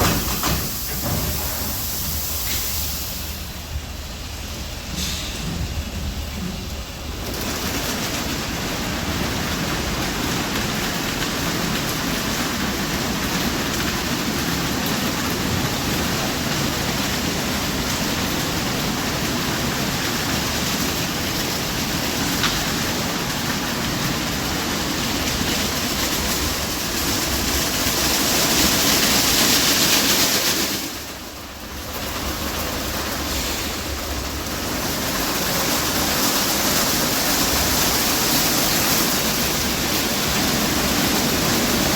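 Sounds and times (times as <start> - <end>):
automatic car wash rushing: 0.0 - 41.9.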